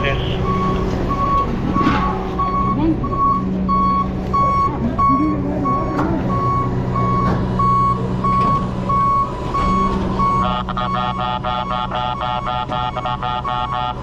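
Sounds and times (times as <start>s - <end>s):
truck engine running: 0.0s - 14.0s
reversing alarm beeping: 0.3s - 14.0s.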